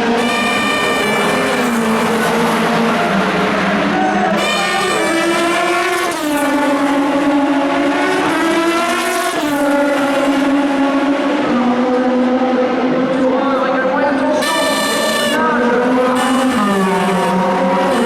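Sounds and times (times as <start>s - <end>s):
other cars running: 0.0s - 18.0s
race car engine accelerating: 0.0s - 18.0s.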